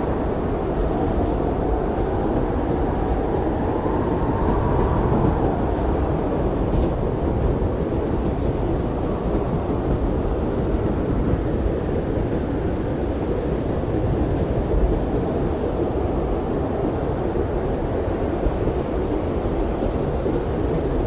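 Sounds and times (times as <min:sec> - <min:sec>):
blizzard wind howling: 0:00.0 - 0:21.0.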